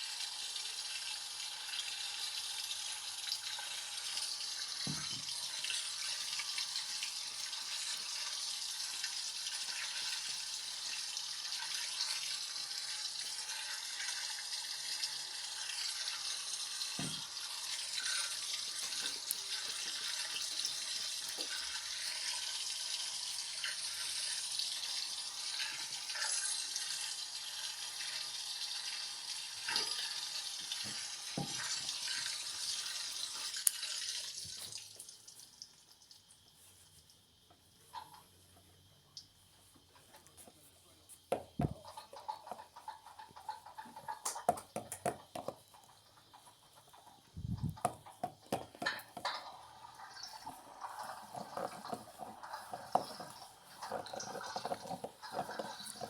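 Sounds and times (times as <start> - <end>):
water rushing into washing machine: 0.0 - 35.6, 41.4 - 56.0.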